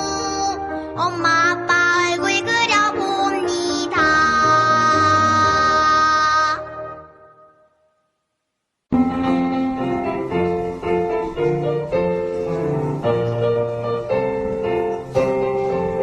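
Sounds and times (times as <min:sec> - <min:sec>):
piano playing chords: 0:00.0 - 0:07.9, 0:08.9 - 0:16.0.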